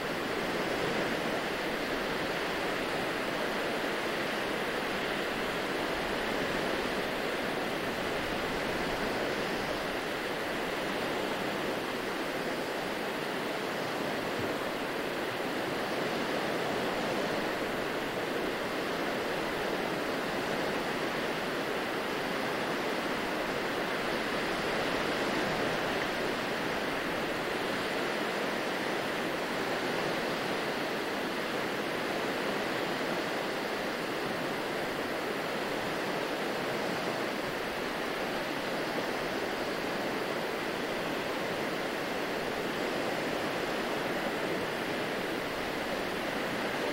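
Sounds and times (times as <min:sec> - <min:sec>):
small waves washing on sand: 0:00.0 - 0:46.9.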